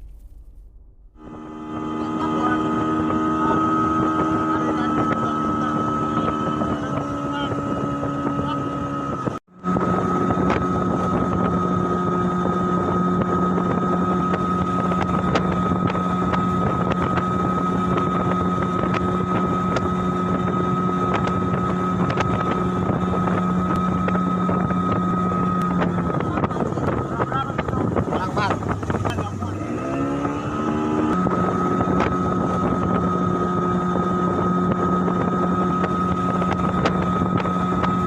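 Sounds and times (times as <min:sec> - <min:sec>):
wind buffeting microphone: 0:00.0 - 0:38.0
boat motor droning: 0:01.0 - 0:38.0.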